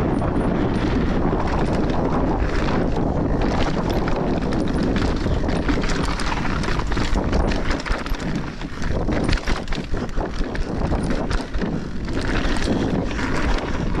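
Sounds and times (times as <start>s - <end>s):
bike clicks and rattles: 0.0s - 14.0s
tyres rolling on boardwalk and dirt: 0.0s - 14.0s
wind buffeting microphone: 0.0s - 14.0s.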